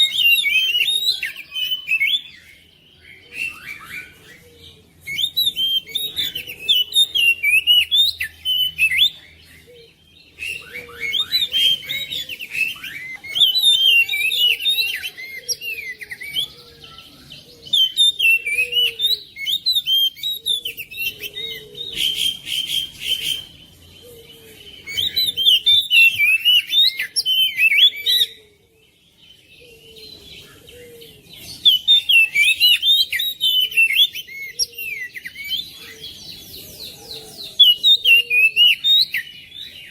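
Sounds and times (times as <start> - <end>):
bird singing whistles and chirps: 0.0 - 28.6, 29.3 - 39.9.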